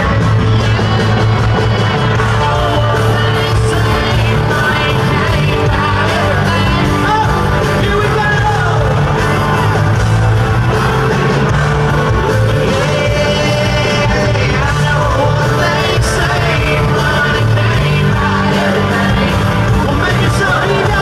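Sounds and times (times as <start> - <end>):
person singing: 0.0 - 9.9, 10.7 - 21.0
live band playing: 0.0 - 21.0.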